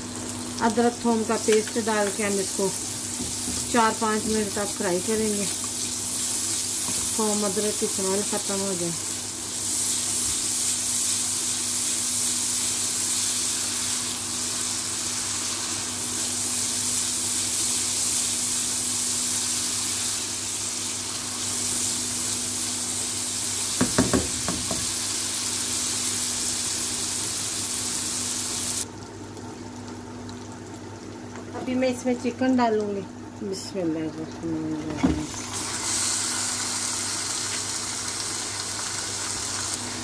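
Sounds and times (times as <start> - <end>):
paste sizzling in hot oil: 0.0 - 28.8, 35.3 - 40.0.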